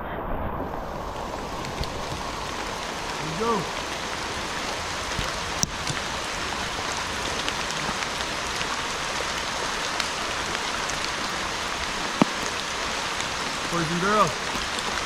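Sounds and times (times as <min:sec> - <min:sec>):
heavy rain falling: 0:00.0 - 0:15.0
sharp ticks of raindrops: 0:01.0 - 0:15.0.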